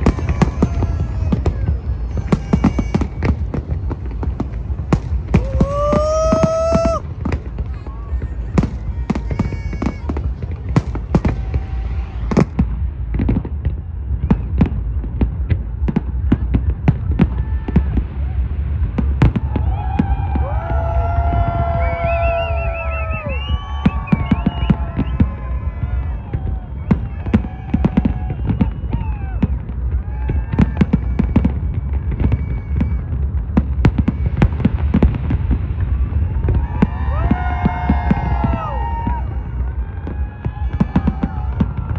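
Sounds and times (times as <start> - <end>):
fireworks bangs: 0.0 - 41.9
low rumble: 0.0 - 41.9.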